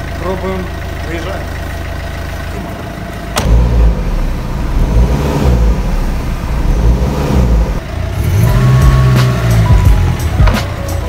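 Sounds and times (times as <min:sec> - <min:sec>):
diesel engine pulling away: 0:00.0 - 0:11.0.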